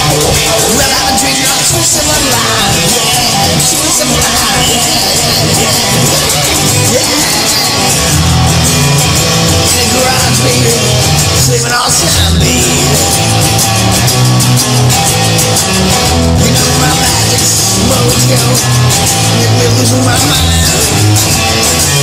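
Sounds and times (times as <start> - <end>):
rock music with electric guitar: 0.0 - 22.0.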